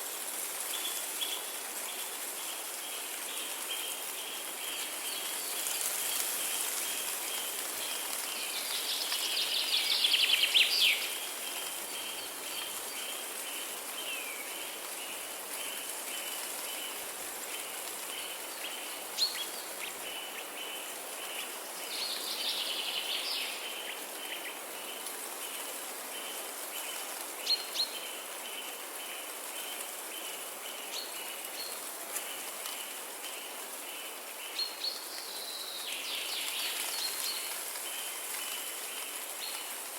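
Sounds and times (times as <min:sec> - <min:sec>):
outdoor ambience hiss: 0:00.0 - 0:39.9.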